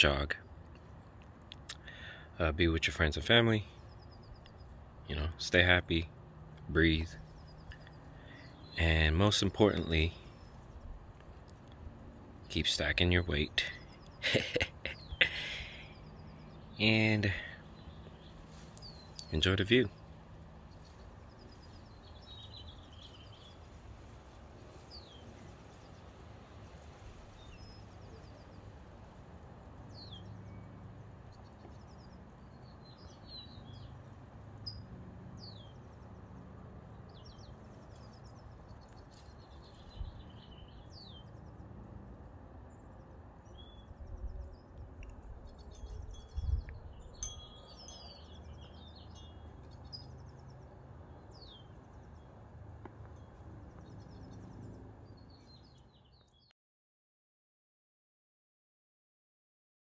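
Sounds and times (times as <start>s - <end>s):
low outdoor rumble: 0.0s - 56.2s
small birds chirping: 0.0s - 56.5s.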